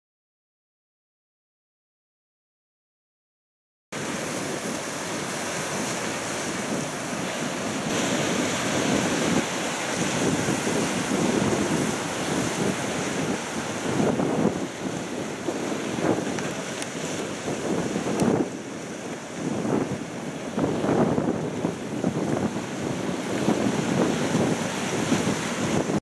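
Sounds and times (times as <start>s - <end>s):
surf washing over rocks: 4.0s - 26.0s
wind buffeting microphone: 4.0s - 26.0s.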